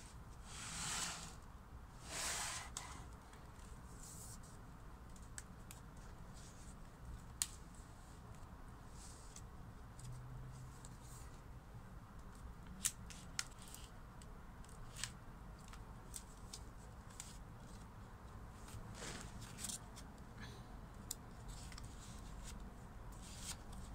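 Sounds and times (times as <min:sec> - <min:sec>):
faint room noise: 0:00.0 - 0:23.9.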